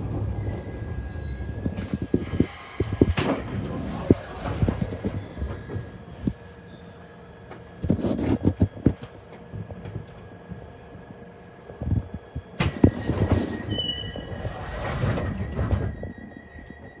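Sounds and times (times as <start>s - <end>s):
electrical hum with faint whine: 3.1s - 17.0s.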